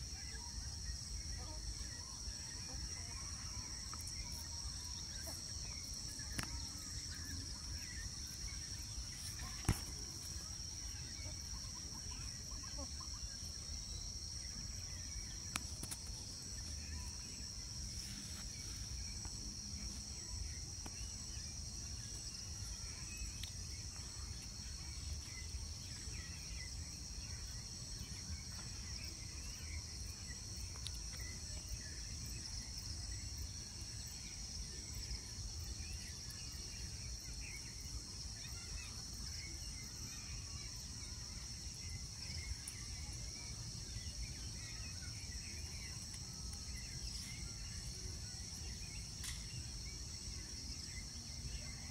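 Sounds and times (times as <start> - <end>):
faint chirps: 0.0 - 51.9.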